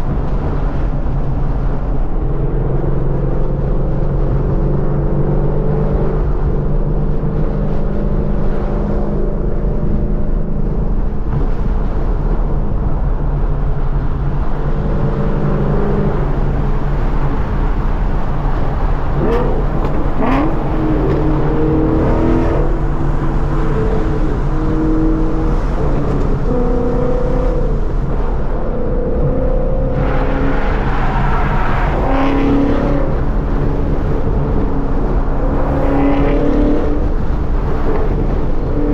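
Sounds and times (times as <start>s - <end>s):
car engine and exhaust droning: 0.0s - 38.9s.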